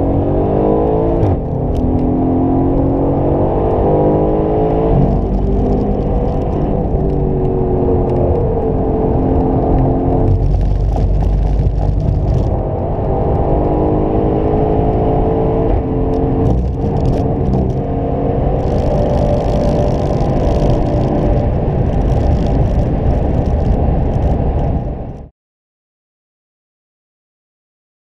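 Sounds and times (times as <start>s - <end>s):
car engine accelerating: 0.0s - 25.3s.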